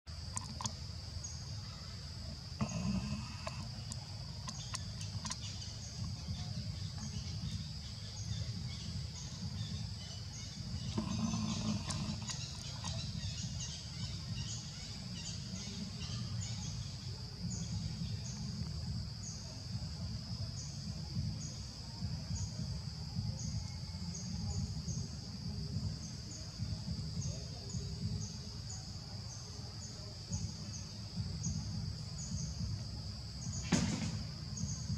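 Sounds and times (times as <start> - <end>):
short insect chirp: 0.1 - 34.9
high-pitched insect drone: 0.3 - 34.9.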